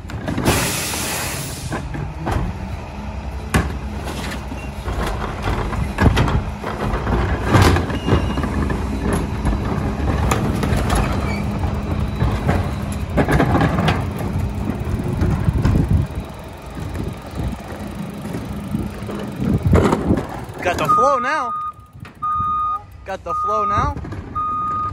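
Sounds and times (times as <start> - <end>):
bins banging and clattering: 0.0 - 2.7, 3.4 - 21.4, 23.7 - 24.9
diesel truck engine running: 0.0 - 24.9.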